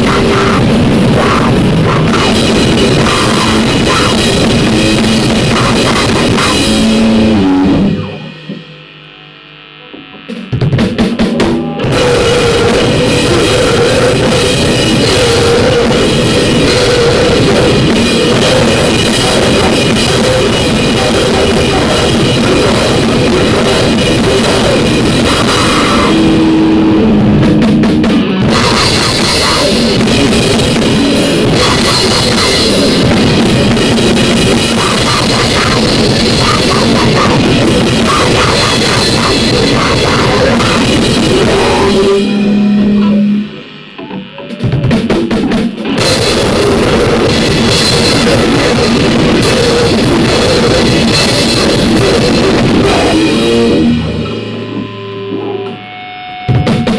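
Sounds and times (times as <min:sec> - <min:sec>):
harsh distorted noise music: 0:00.0 - 0:56.9.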